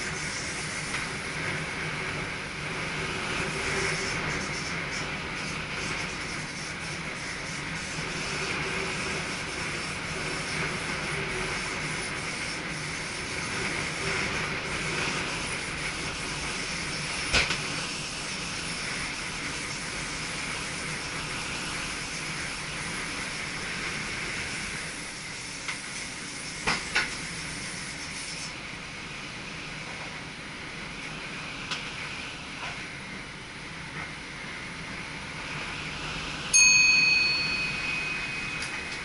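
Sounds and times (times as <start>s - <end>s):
train rushing hiss in cab: 0.0s - 39.0s.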